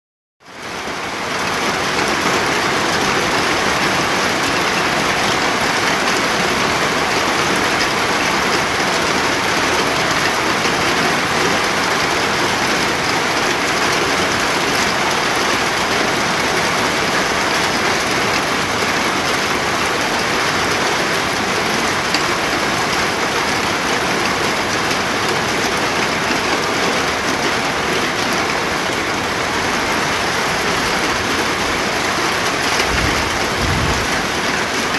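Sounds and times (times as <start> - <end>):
heavy rain: 0.4 - 34.9.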